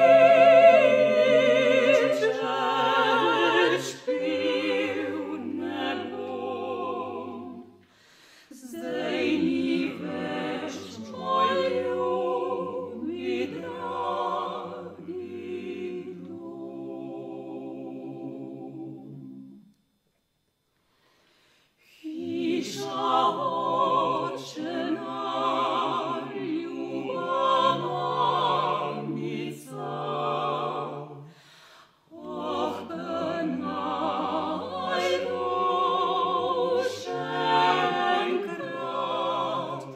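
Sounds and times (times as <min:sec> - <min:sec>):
vocal quartet singing in harmony: 0:00.0 - 0:20.0, 0:21.3 - 0:39.9.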